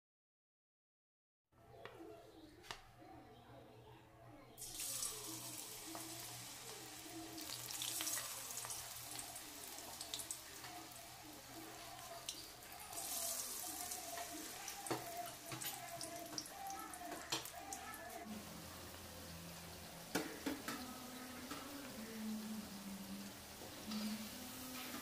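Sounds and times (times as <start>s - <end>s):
deep-frying sizzle with crackles: 4.6s - 25.0s.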